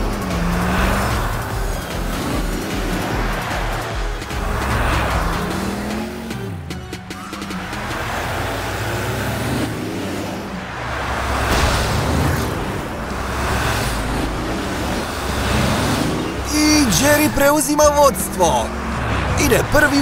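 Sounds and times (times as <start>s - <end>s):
cartoon race car engines passing: 0.0s - 20.0s.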